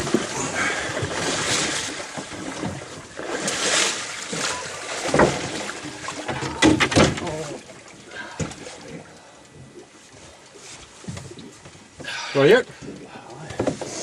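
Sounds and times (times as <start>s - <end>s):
water sloshing against boat: 0.0s - 14.0s.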